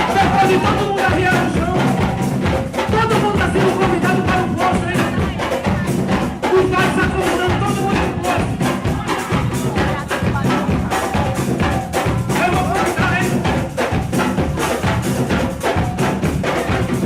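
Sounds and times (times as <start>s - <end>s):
loud music with fast beat: 0.0s - 17.0s.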